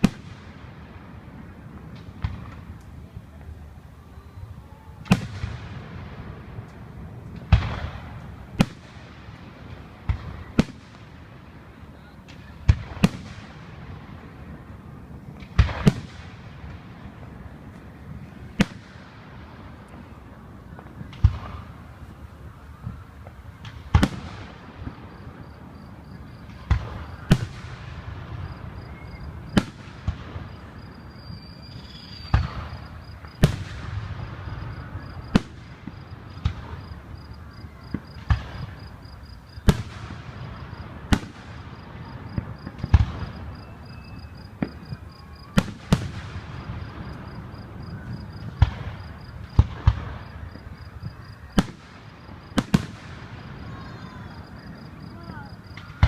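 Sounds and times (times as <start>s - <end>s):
fireworks bursting with echo: 0.0s - 56.0s.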